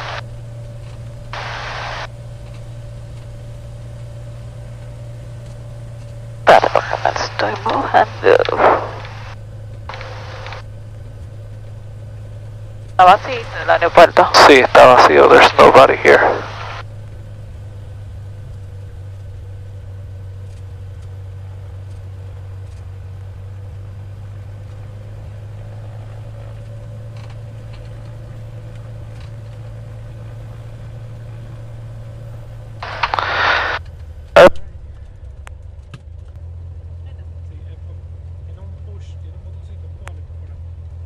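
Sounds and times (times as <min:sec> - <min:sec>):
aircraft engine droning: 0:00.0 - 0:41.0.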